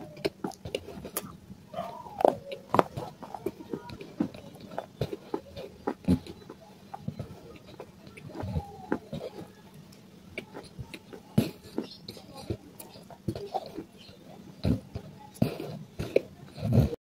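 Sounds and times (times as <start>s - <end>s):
chewing and crunching clay: 0.0s - 17.0s.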